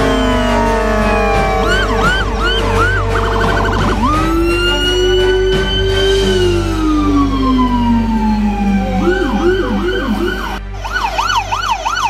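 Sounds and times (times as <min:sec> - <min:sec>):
fire engine siren wailing and yelping: 0:00.0 - 0:12.0.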